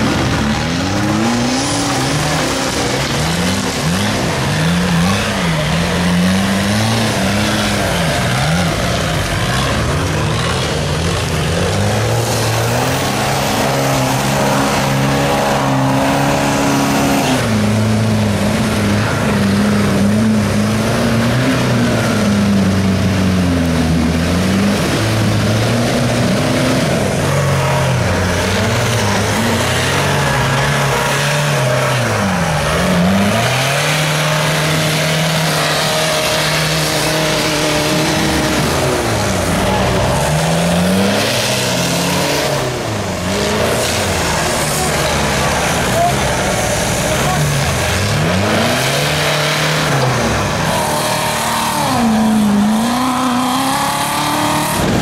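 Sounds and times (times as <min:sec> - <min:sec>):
off-road engine revving in mud: 0:00.0 - 0:55.0.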